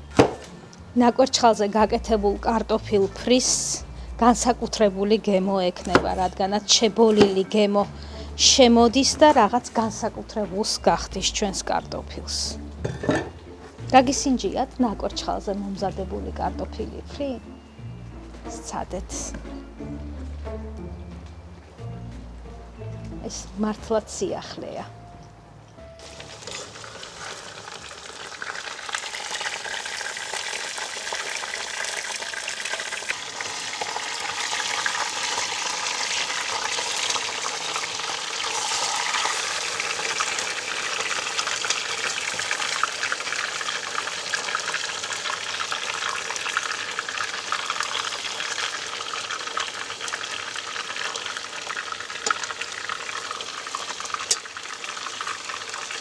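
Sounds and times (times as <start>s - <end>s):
potatoes sizzling in oil: 0.0s - 19.3s, 26.0s - 56.0s.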